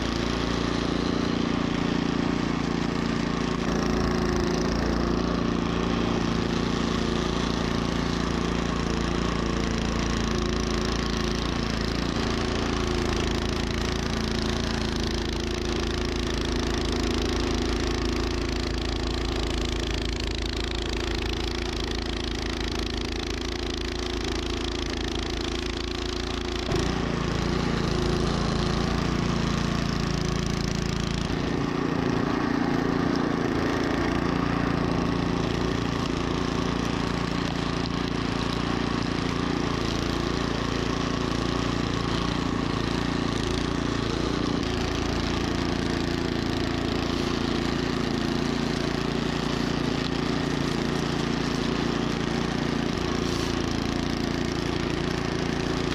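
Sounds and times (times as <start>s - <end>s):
snowblower engine running: 0.0s - 55.9s.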